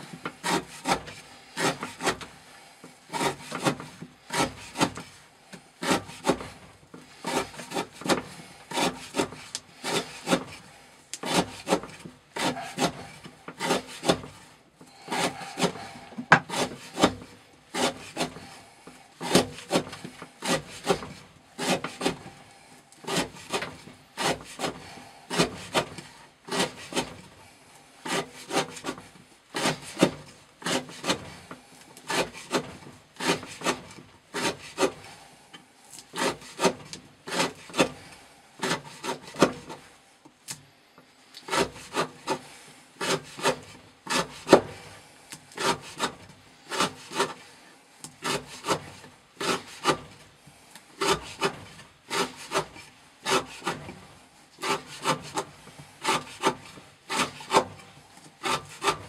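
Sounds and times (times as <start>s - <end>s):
knife shaving wood: 0.0s - 40.6s, 41.3s - 59.0s.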